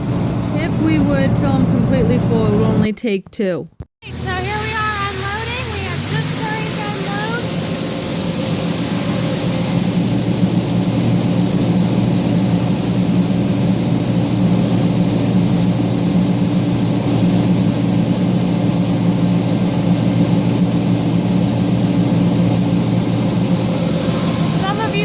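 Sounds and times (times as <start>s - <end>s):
combine engine hum: 0.0s - 3.1s, 4.0s - 25.0s
steady high hiss: 4.0s - 25.0s.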